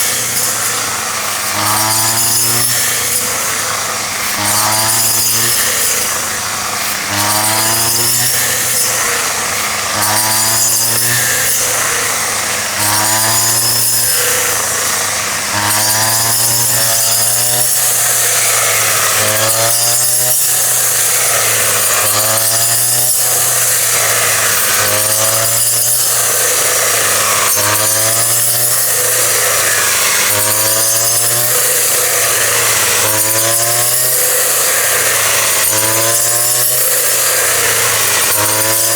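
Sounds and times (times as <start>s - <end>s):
small motor-driven machine running: 0.0s - 38.9s.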